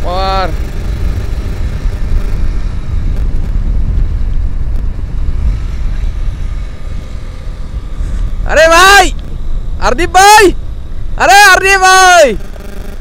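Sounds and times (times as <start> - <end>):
wind buffeting microphone: 0.0 - 11.2
motorcycle engine running: 0.0 - 13.0.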